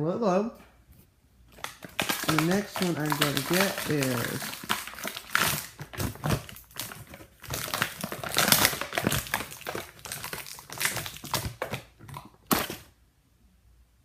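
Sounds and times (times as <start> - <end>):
plastic packaging crinkling: 1.5 - 12.9.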